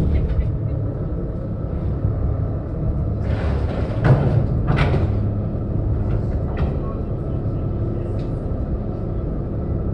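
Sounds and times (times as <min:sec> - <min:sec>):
ferry engines idling: 0:00.0 - 0:09.9.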